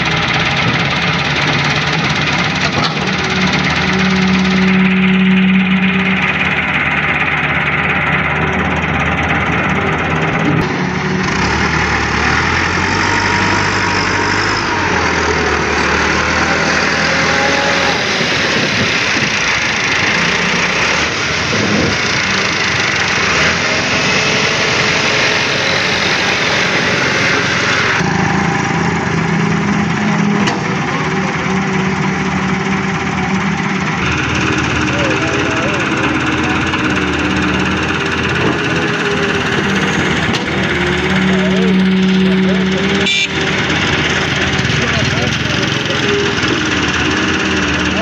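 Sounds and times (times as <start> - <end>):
excavator diesel engine: 0.0 - 48.0
tractor engines: 0.0 - 48.0.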